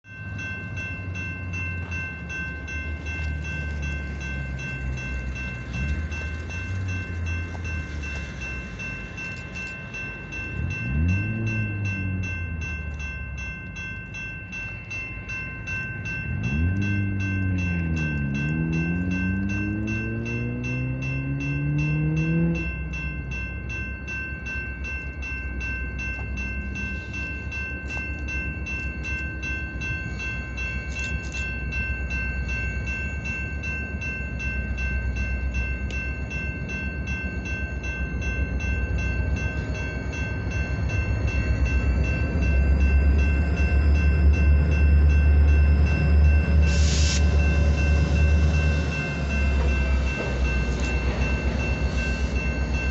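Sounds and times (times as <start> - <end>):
diesel locomotive engines revving: 0.1 - 52.9.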